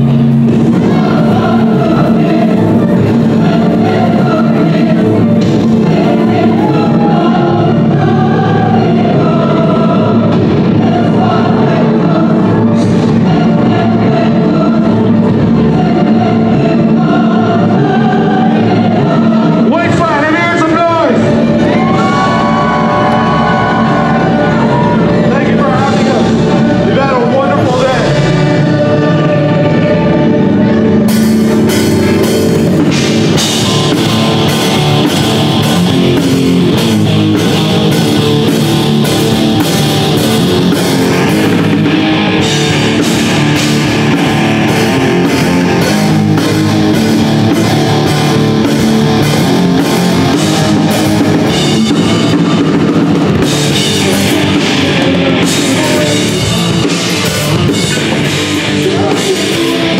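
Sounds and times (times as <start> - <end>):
drums and cymbals: 0.0 - 59.9
electric guitars and bass: 0.0 - 59.9.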